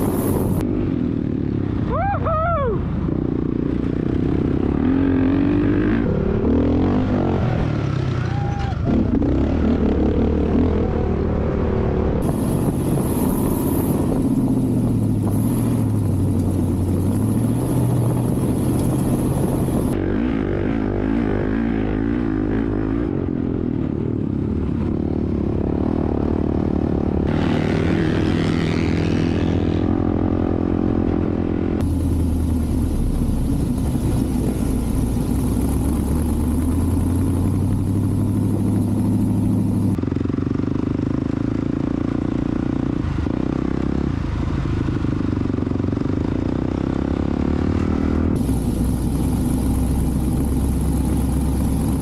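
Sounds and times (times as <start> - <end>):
off-road vehicle engines revving: 0.0 - 24.0, 24.8 - 40.0, 46.5 - 52.0.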